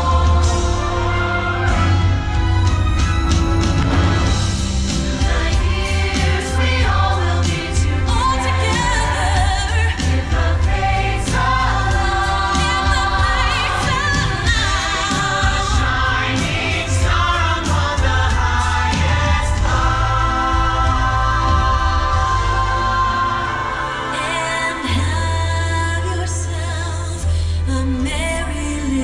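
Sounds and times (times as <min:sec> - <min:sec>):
choir singing: 0:00.0 - 0:02.5, 0:03.1 - 0:26.9
steady bass line: 0:00.0 - 0:29.0.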